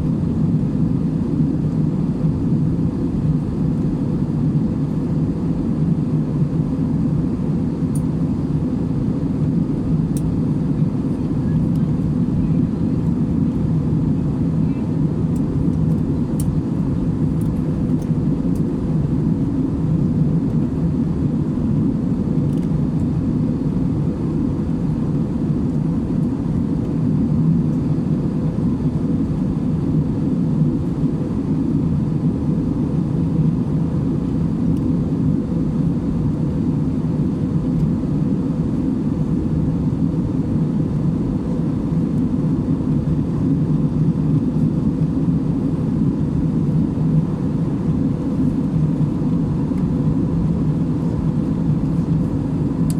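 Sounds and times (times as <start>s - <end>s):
airliner engine drone in cabin: 0.0s - 52.9s
faint constant hum: 0.0s - 52.9s.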